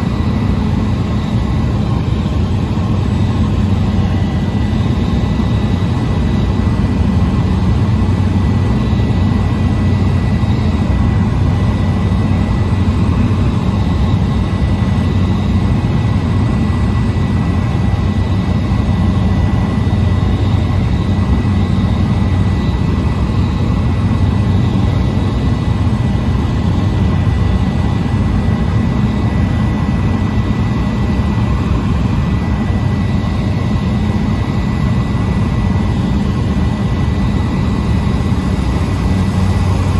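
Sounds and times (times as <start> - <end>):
turboprop engine droning: 0.0 - 39.9.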